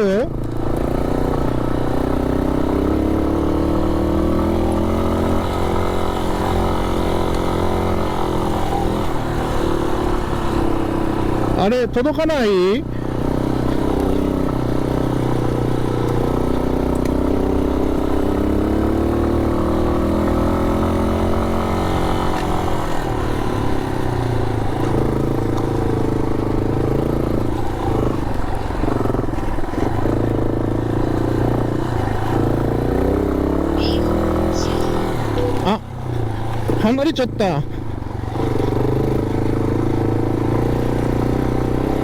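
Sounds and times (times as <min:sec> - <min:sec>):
motorcycle engine: 0:00.0 - 0:42.0
road and wind noise: 0:00.0 - 0:42.0.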